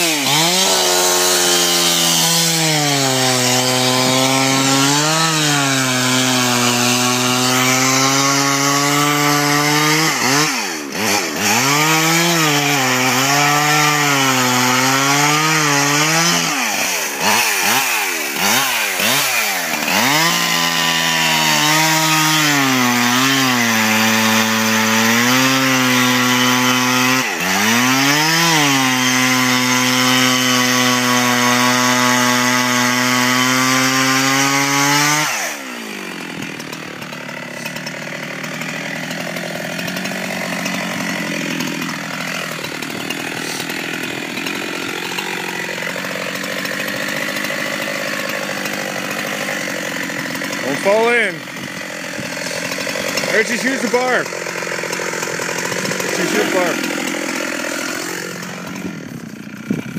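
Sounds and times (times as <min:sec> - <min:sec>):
chainsaw cutting ice: 0:00.0 - 0:59.9.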